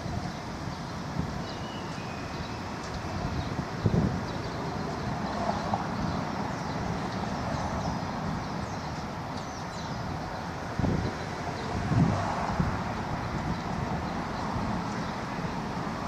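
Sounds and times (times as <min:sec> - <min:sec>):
wind gust on microphone: 0:00.0 - 0:08.4, 0:09.8 - 0:16.0
distant traffic rumble: 0:00.0 - 0:16.0.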